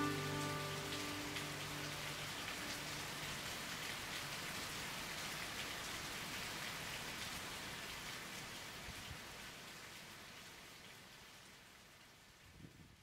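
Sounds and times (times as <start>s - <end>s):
patter of falling water: 0.0s - 13.0s.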